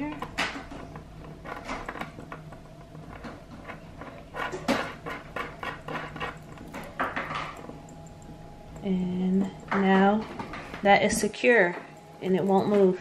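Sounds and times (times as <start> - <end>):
metal hardware screwed by hand: 0.0 - 10.8.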